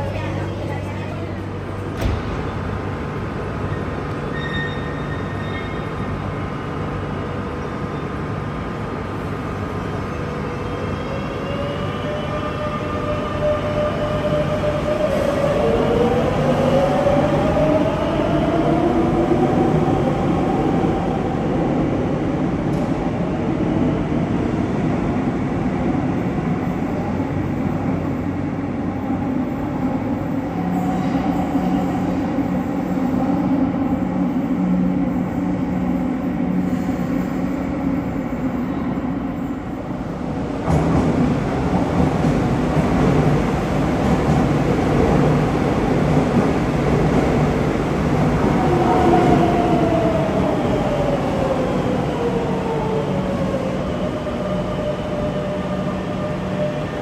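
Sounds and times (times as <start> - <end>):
metro train rumbling: 0.0 - 57.0.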